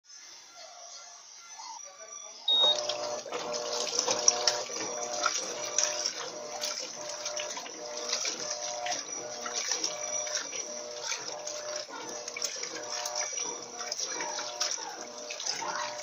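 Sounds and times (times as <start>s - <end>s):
washing machine motor humming: 2.5s - 16.0s
water churning in washing machine: 2.5s - 16.0s.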